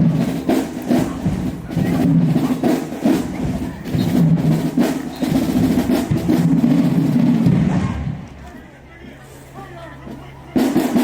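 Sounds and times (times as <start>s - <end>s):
drumline hits: 0.0s - 8.4s, 10.0s - 11.0s.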